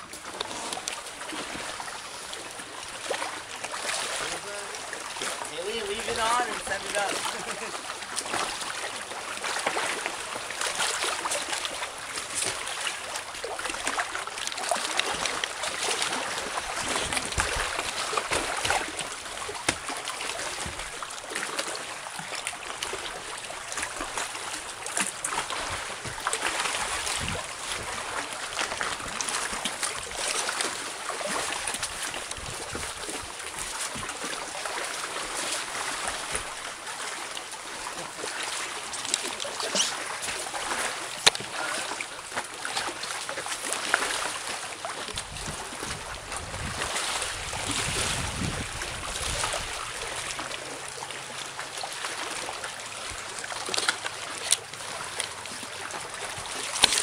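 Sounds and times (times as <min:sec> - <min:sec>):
water lapping against rocks: 0:00.0 - 0:57.0.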